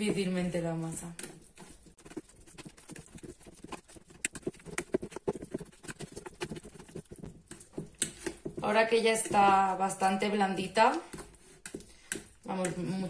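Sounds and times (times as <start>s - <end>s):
fork mashing in plastic colander: 0.0s - 13.0s.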